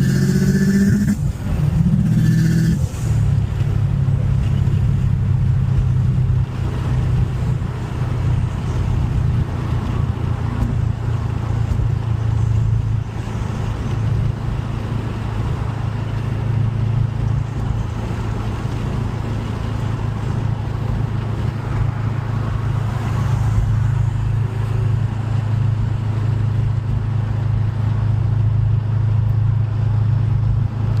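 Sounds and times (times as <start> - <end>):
car engine droning steadily: 0.0 - 31.0.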